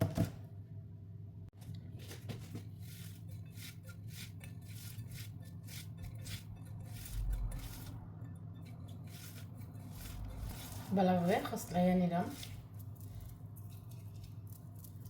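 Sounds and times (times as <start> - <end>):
hands squishing potato: 2.0 - 8.0, 8.9 - 15.0.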